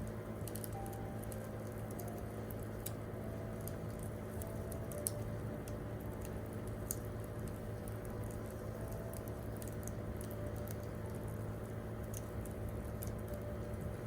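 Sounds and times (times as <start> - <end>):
soft piano notes: 0.0 - 14.0.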